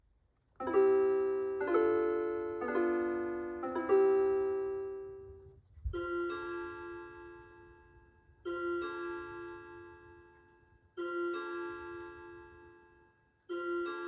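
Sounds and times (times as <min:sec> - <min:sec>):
wall clock chime notes: 0:00.6 - 0:14.0.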